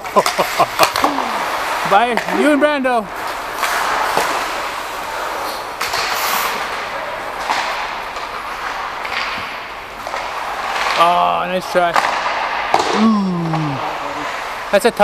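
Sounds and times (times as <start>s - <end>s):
hockey sticks and puck knocking: 0.0s - 15.0s
skate blades on ice: 0.0s - 15.0s.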